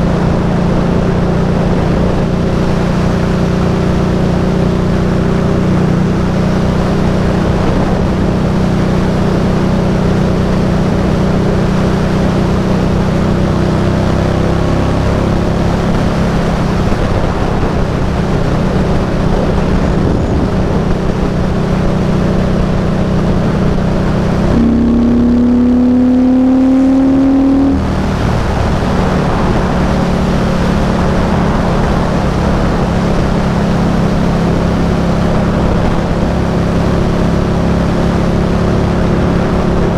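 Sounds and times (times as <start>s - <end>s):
heavy wind noise: 0.0s - 39.9s
motorcycle engine running: 0.0s - 39.9s.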